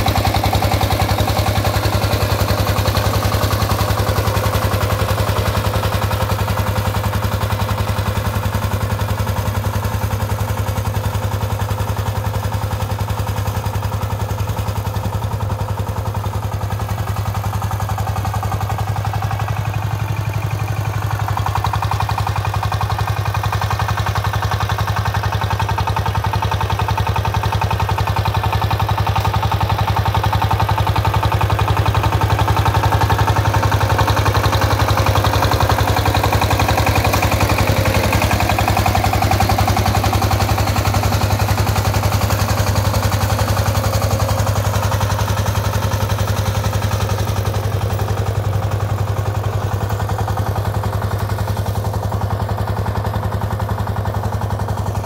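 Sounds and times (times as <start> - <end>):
diesel engine thudding: 0.0 - 55.0.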